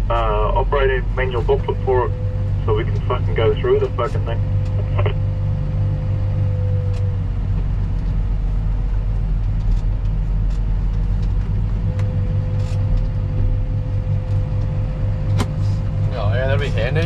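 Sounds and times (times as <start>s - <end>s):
engine low rumble with whine: 0.0s - 17.0s.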